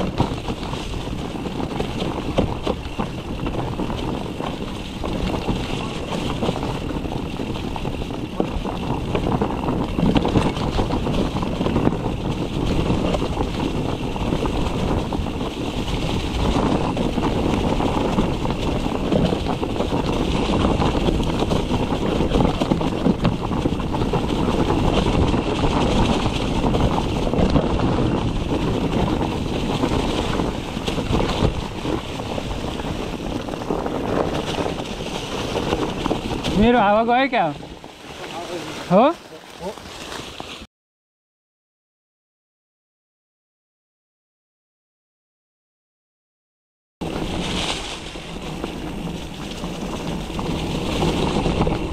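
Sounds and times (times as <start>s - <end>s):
bike rattling over dirt trail: 0.0s - 40.7s, 47.0s - 51.9s.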